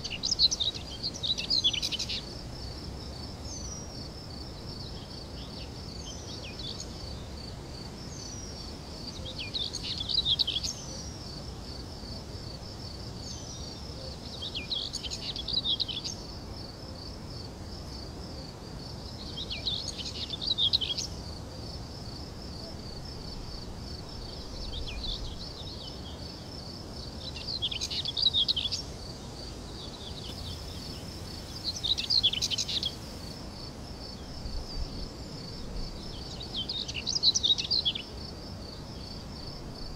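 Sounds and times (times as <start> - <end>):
insects trilling: 0.0 - 39.9
songbird singing: 0.0 - 39.9.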